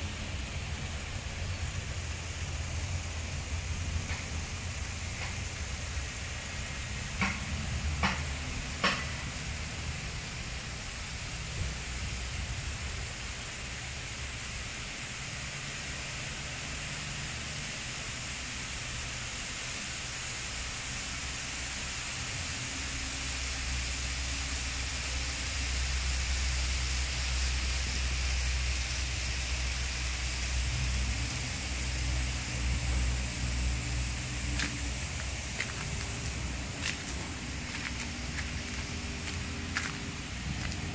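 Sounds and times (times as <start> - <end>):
model trains hiss and rumble: 0.0 - 40.9.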